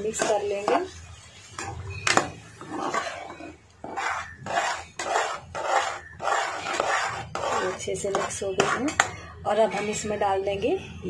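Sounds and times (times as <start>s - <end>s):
metal spoon scraping pot: 0.0s - 10.5s.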